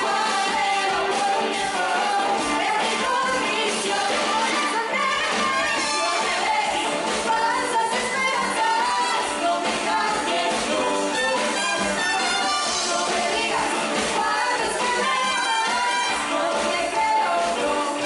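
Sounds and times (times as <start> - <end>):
bass: 0.0 - 18.0
drums: 0.0 - 18.0
electric guitars: 0.0 - 18.0
keyboards: 0.0 - 18.0
voices singing: 0.0 - 18.0.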